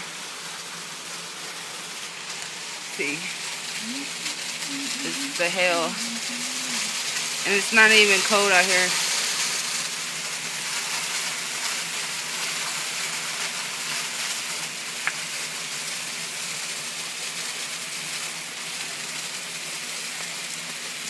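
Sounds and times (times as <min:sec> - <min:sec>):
hail pattering on ground: 0:00.5 - 0:21.0.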